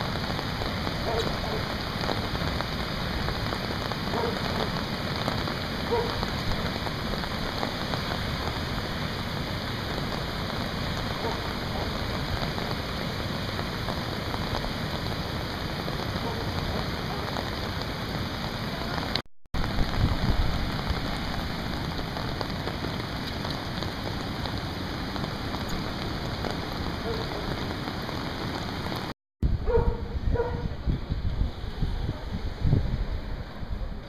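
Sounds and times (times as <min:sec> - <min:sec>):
river rushing in spate: 0:00.0 - 0:29.8
heavy rain: 0:00.0 - 0:34.0
rain falling on an umbrella: 0:00.0 - 0:34.0.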